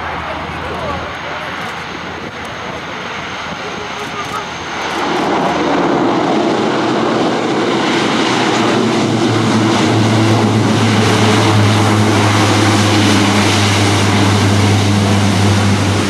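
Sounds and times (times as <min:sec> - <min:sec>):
low propeller drone: 0:00.0 - 0:16.0
turboprop engines roaring: 0:00.0 - 0:16.0.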